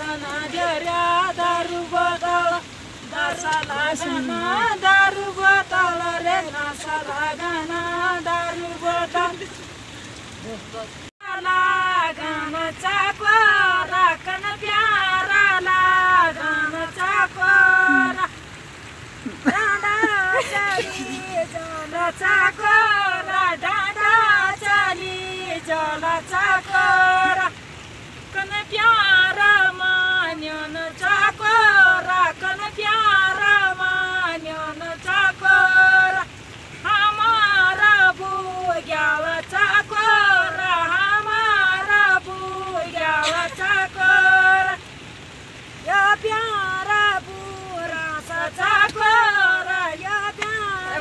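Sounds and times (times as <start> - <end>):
women singing unaccompanied: 0.0 - 51.0.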